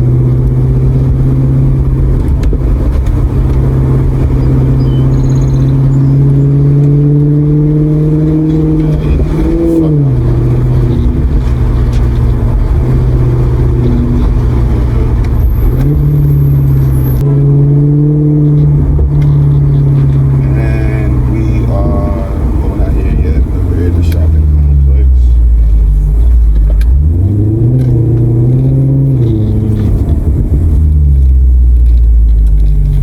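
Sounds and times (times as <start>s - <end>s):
car engine accelerating: 0.0s - 33.0s
gear shift: 0.0s - 33.0s.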